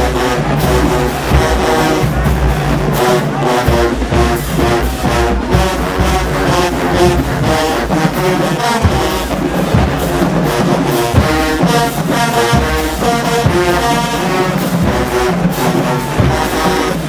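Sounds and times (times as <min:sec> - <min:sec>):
brass chords: 0:00.0 - 0:17.0.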